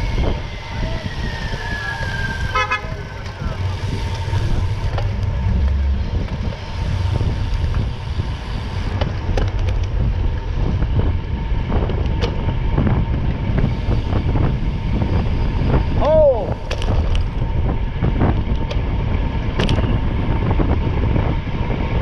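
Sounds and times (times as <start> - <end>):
vehicle rumble: 0.0 - 22.0.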